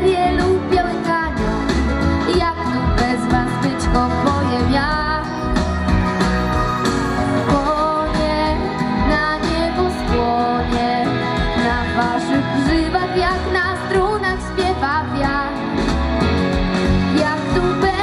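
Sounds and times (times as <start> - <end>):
girl singing into microphone: 0.0 - 5.5, 7.4 - 15.7, 17.1 - 18.0
backing track with guitar: 0.0 - 18.0.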